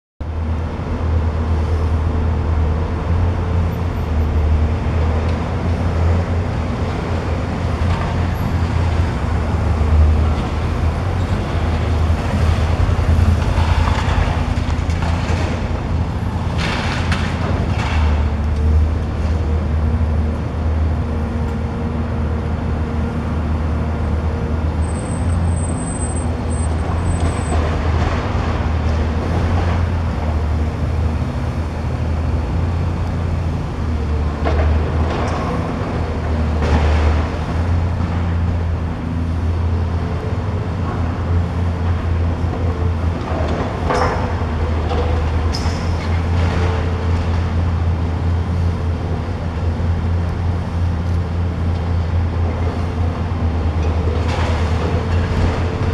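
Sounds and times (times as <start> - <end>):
excavator diesel engine running: 0.3 - 55.9.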